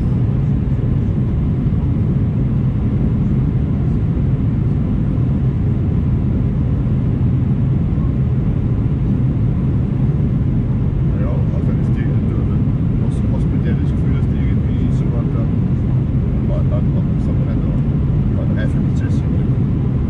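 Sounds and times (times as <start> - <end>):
airliner cabin engine and airflow rumble: 0.0 - 20.0.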